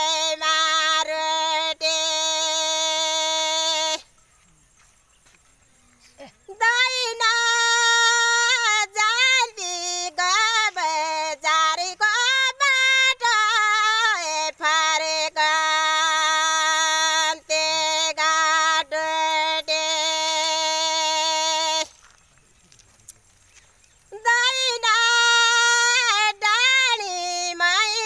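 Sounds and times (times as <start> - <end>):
woman singing unaccompanied: 0.0 - 4.4, 6.0 - 22.1, 24.1 - 28.0.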